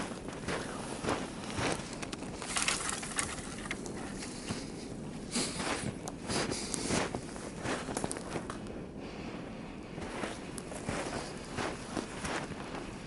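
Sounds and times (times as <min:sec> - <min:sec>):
footsteps crunching in snow: 0:00.0 - 0:08.6, 0:09.9 - 0:13.0.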